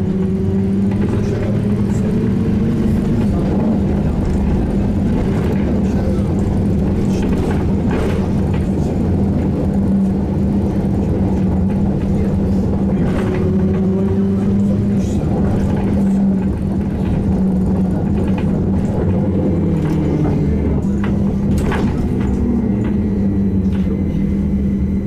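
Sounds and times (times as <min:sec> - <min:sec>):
trolleybus cabin hum: 0:00.0 - 0:25.0.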